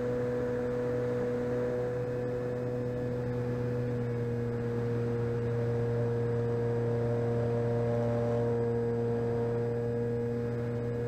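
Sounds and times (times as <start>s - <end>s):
model plane motor humming: 0.0s - 11.0s.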